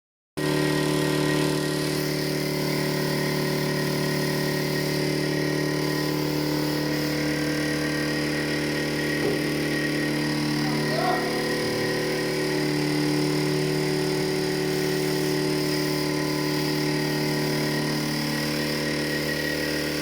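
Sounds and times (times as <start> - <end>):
machine motor humming: 0.4 - 20.0.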